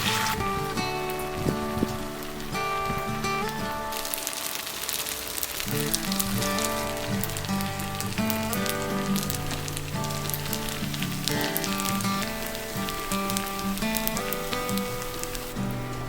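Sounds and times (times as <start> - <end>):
background music: 0.0 - 16.0
food sizzling in a pan: 0.0 - 16.0.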